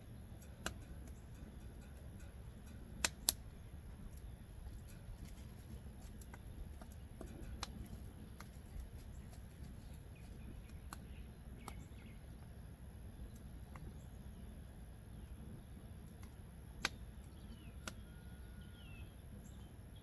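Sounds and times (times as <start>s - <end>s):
wood fire crackling: 0.0s - 18.0s
low steady rumble: 0.0s - 20.0s.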